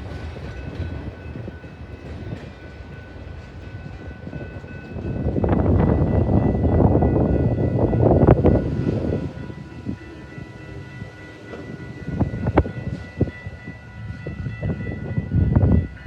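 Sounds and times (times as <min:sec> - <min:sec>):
passing train rumbling: 0:00.0 - 0:16.0.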